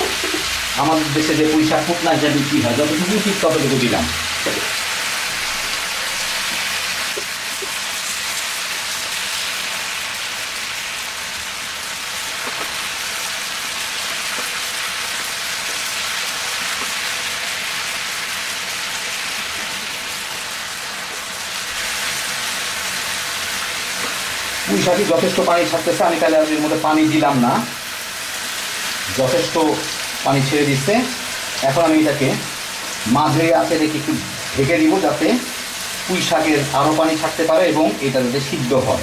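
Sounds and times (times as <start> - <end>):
greens sizzling in oil: 0.0 - 39.0.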